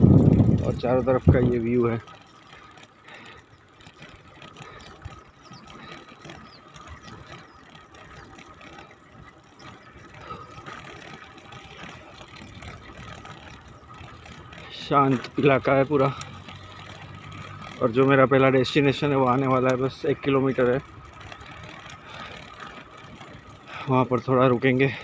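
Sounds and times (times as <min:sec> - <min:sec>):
bicycle chain ticking and rattling: 0:00.0 - 0:25.0
road and wind noise: 0:00.0 - 0:25.0.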